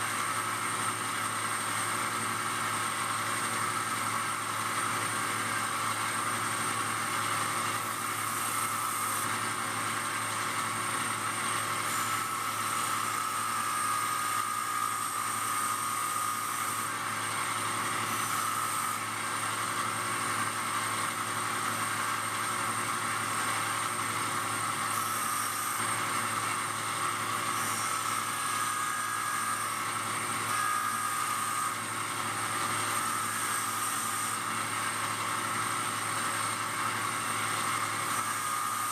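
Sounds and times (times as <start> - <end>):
belt grinder grinding: 0.0 - 38.9.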